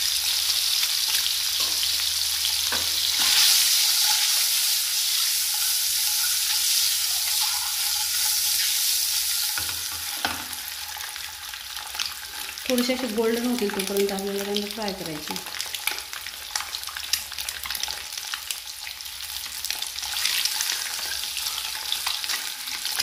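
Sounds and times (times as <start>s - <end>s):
eggs sizzling in hot oil: 0.0s - 23.0s.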